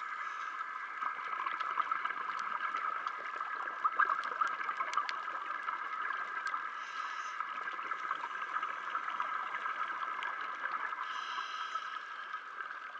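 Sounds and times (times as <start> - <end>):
underwater crackling hiss: 0.0 - 12.9.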